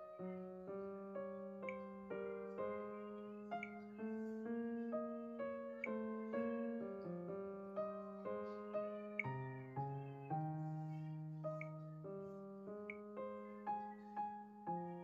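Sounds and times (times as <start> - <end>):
gentle keyboard melody: 0.0 - 15.0.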